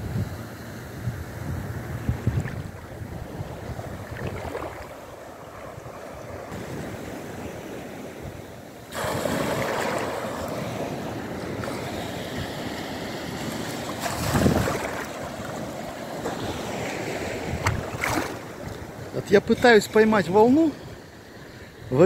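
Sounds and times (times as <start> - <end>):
wind on microphone: 0.0 - 19.6
small waves breaking: 0.4 - 22.0.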